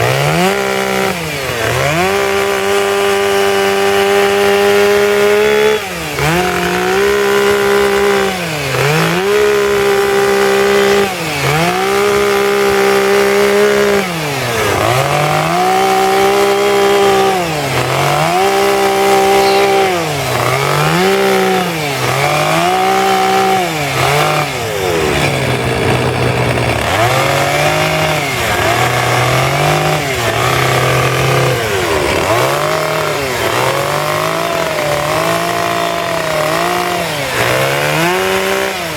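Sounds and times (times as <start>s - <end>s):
chainsaw revving while carving wood: 0.0s - 38.9s.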